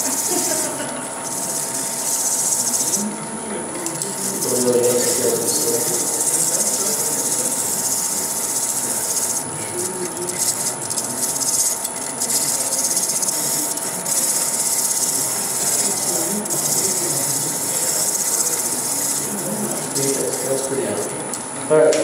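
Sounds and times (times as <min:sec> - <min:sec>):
wood hissing on a lathe: 0:00.0 - 0:03.2, 0:04.1 - 0:21.2.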